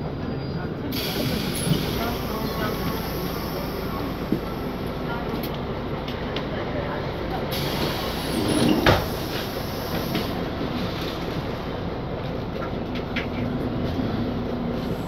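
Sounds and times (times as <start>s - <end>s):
bus diesel engine rumble: 0.0s - 15.0s.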